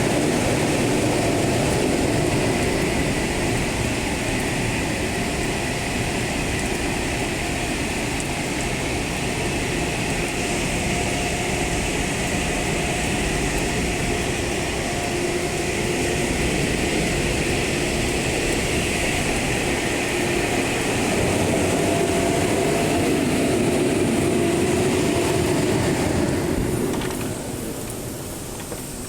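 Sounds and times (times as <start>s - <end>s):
car wash machinery rushing: 0.0s - 29.0s.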